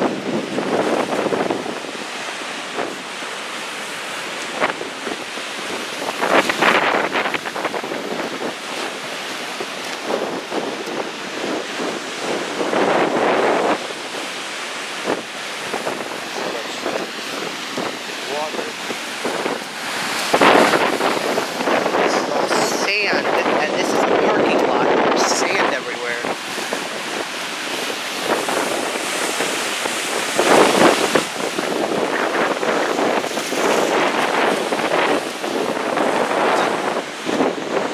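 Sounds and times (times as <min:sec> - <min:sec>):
gusty wind buffeting microphone: 0:00.0 - 0:37.9
waves breaking and surging: 0:00.0 - 0:37.9.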